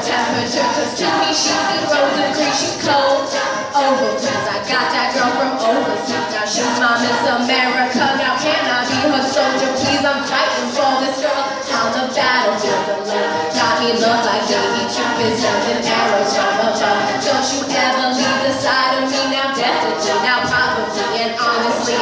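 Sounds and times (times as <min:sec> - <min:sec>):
a cappella group singing: 0:00.0 - 0:22.0
vocal percussion beat: 0:00.0 - 0:22.0.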